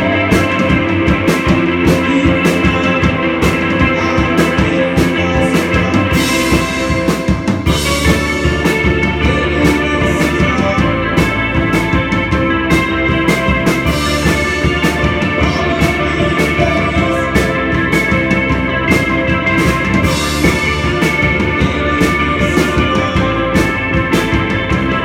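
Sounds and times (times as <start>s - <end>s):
drum kit steady beat: 0.0s - 25.0s
sustained band chords: 0.0s - 25.0s.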